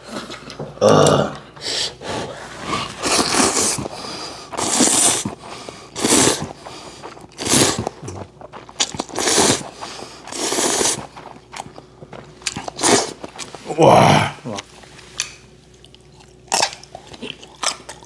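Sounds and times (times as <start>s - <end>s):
person slurping noodles: 0.1s - 14.7s.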